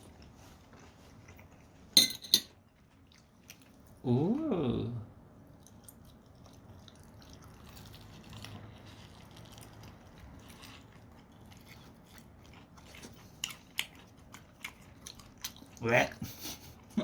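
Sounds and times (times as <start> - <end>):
faint chewing of food: 0.0 - 2.0, 2.6 - 4.0, 5.4 - 17.0.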